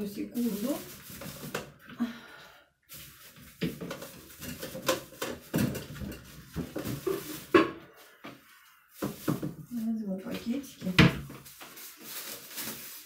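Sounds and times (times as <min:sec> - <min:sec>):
plastic bag crinkling: 0:00.0 - 0:01.8, 0:02.9 - 0:07.7, 0:08.9 - 0:13.0.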